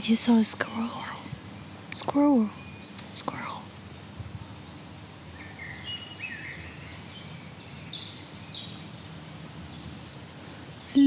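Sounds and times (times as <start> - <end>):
birds chirping and calling: 0.0 - 11.0
low outdoor background noise: 0.0 - 11.0.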